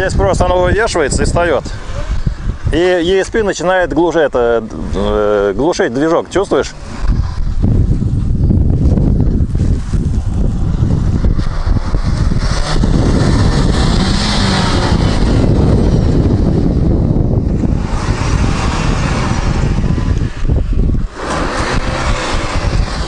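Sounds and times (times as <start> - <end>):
car engine straining: 0.0 - 23.0
wheels spinning and spraying sand: 0.0 - 23.0
wind rumble on microphone: 0.0 - 23.0.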